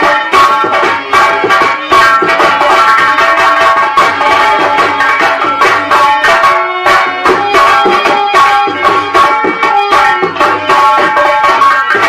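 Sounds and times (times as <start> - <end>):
barrel drum beating: 0.0 - 12.0
held melody line: 0.0 - 12.0.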